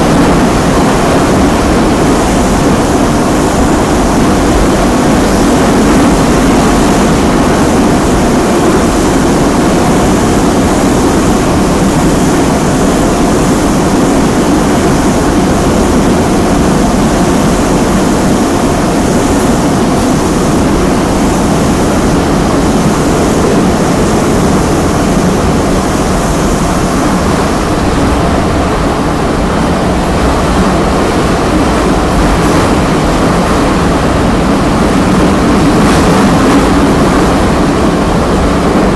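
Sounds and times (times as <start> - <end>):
metro train wheels rumbling: 0.0 - 38.9.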